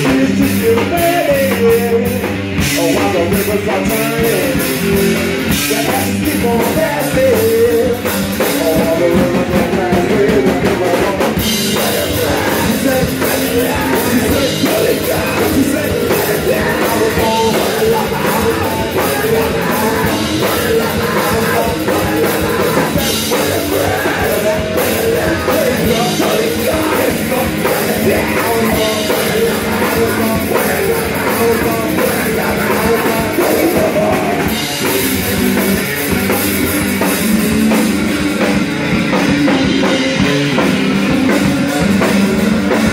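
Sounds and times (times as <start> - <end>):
bass guitar: 0.0 - 42.9
drum kit: 0.0 - 42.9
electric guitar: 0.0 - 42.9.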